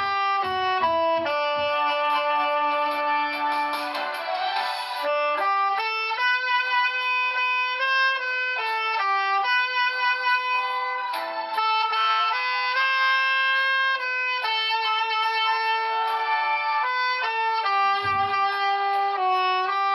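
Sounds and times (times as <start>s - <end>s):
tenor saxophone slow melody: 0.0s - 19.9s.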